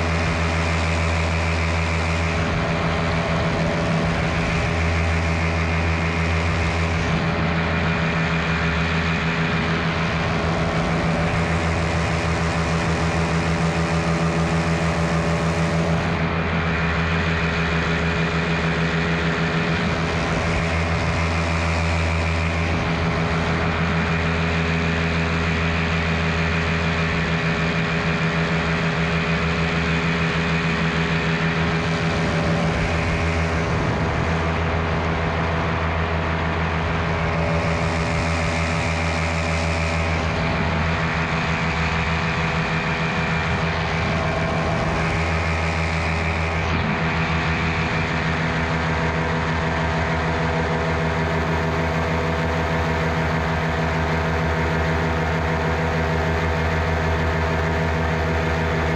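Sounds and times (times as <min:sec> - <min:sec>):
paramotor engine and propeller running: 0:00.0 - 0:58.9.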